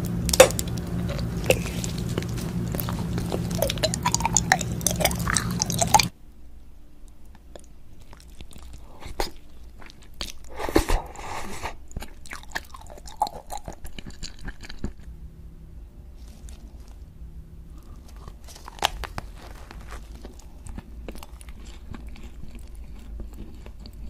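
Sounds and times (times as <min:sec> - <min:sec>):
crunching and chewing candy: 0:00.0 - 0:06.1, 0:07.2 - 0:15.2, 0:16.1 - 0:17.1, 0:17.7 - 0:24.0
wet squishes of jelly eating: 0:00.0 - 0:06.1, 0:07.1 - 0:15.2, 0:16.1 - 0:17.1, 0:17.7 - 0:24.0.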